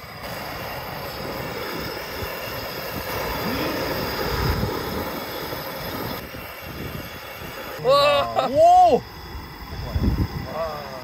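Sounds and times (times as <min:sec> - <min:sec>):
gas burner rushing: 0:00.0 - 0:11.0.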